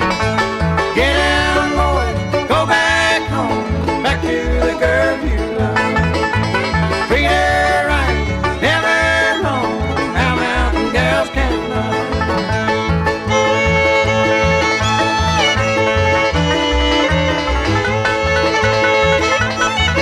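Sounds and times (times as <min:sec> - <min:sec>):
bluegrass banjo music: 0:00.0 - 0:20.0.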